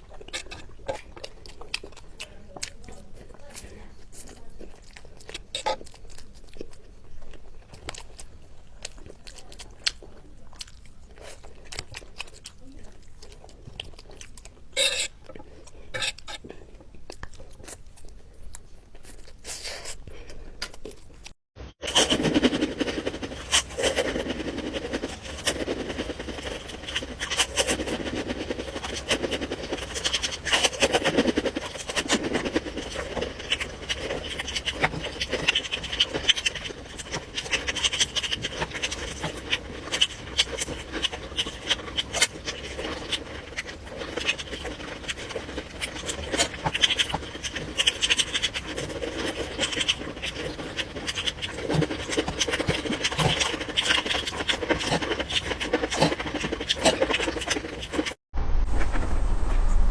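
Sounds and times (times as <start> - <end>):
chewing and crunching: 0.0 - 58.2.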